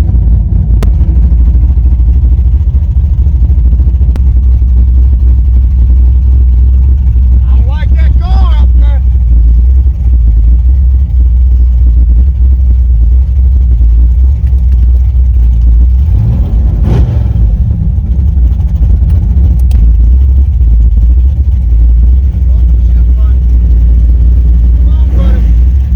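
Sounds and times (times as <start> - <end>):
vehicle engine droning: 0.0 - 25.9.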